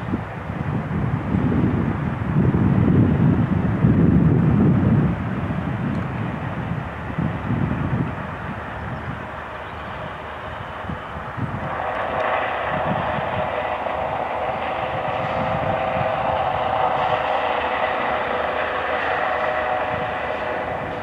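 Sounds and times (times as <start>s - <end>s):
helicopter flying low: 0.0s - 21.0s.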